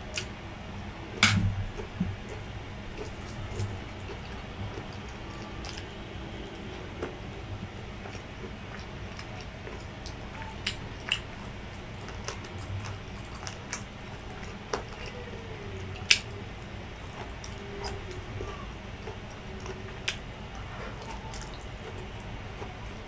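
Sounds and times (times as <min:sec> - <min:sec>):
wet chewing and mouth noises: 0:00.0 - 0:23.0.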